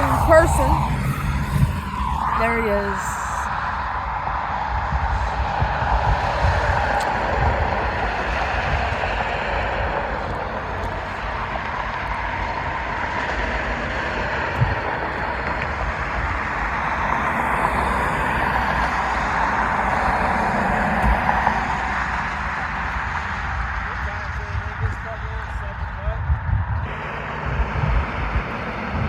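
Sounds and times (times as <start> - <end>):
road traffic: 0.0 - 24.8, 26.8 - 29.0
jet aircraft rumbling: 0.0 - 29.0.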